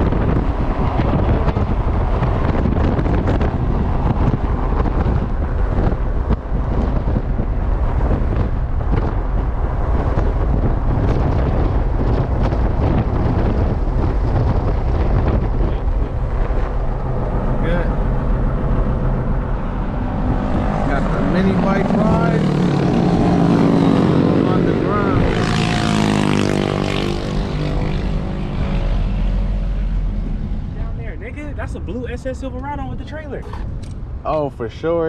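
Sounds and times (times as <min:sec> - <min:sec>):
road and engine rumble: 0:00.0 - 0:35.0
wind buffeting microphone: 0:00.0 - 0:35.0.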